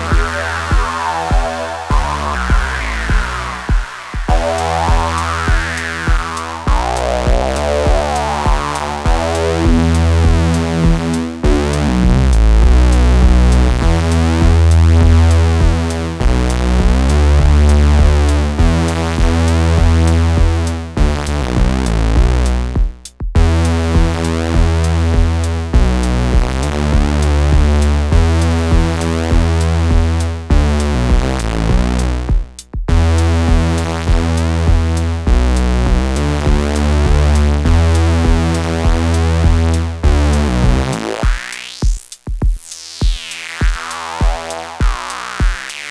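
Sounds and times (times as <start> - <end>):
gritty synthesizer bass line: 0.0 - 45.9
ticking pulse: 0.0 - 45.9.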